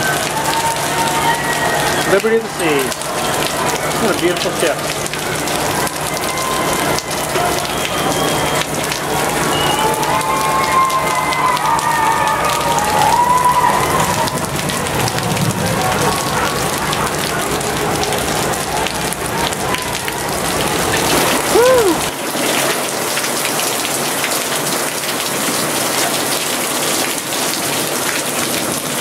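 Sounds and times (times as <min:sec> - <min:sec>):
heavy rain on deck: 0:00.0 - 0:29.0.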